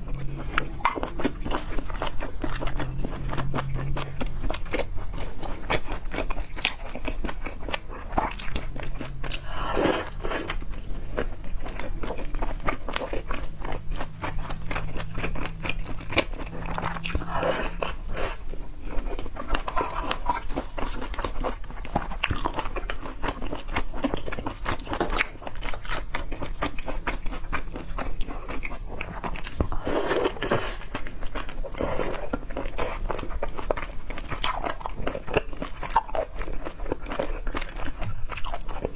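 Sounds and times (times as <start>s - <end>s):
crunchy bites and chewing: 0.0s - 38.9s
low steady hum: 0.0s - 38.9s.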